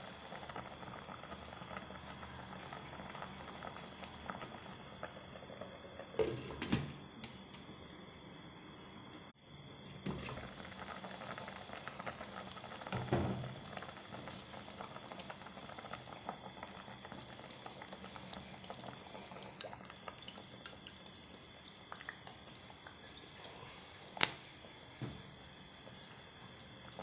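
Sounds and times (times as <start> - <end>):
broth boiling and bubbling: 0.0 - 7.1, 9.4 - 27.0.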